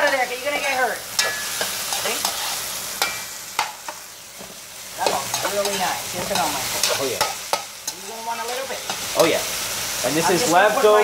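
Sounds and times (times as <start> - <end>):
utensil scraping a wok: 0.0 - 10.9
food sizzling in a wok: 0.0 - 11.0.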